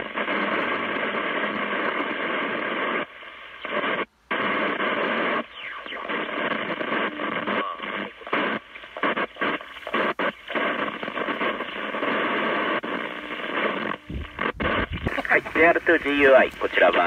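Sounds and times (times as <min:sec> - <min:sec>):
radio buzzing with steady tone: 0:00.0 - 0:17.0.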